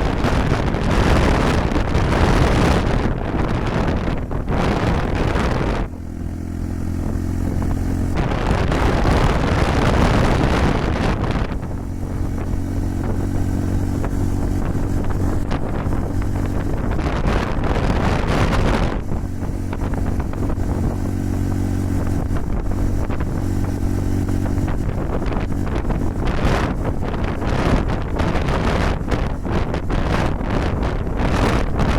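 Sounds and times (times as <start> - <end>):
motorcycle engine running: 0.0 - 31.9
wind buffeting microphone: 0.0 - 31.9.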